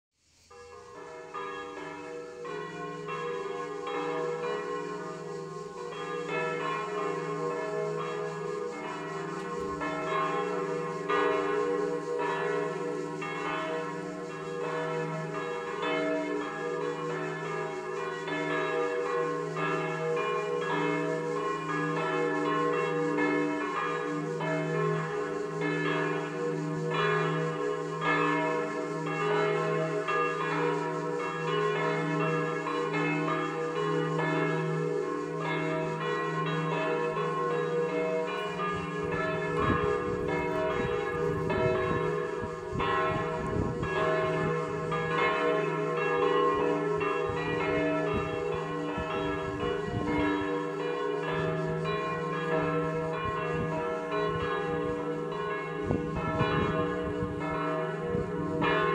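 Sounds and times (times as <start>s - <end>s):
church bells pealing: 0.5s - 58.9s.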